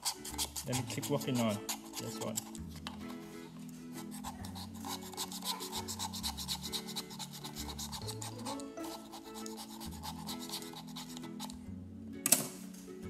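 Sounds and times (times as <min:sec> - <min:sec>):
razor blade scraping plastic: 0:00.0 - 0:11.6.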